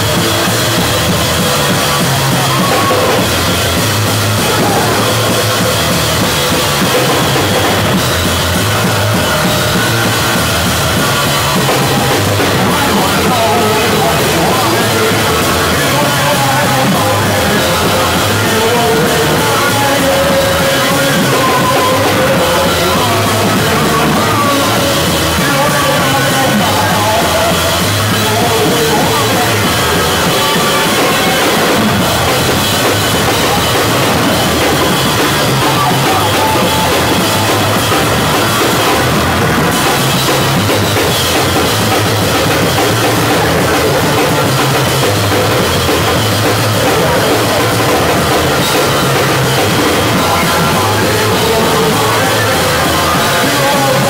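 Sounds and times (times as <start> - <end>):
droning bass guitar: 0.0 - 54.0
drum kit pounded fast: 0.0 - 54.0.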